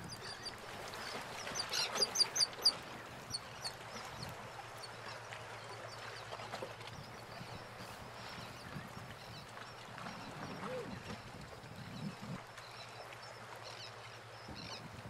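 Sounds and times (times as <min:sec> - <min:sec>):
water birds calling: 0:00.0 - 0:15.0.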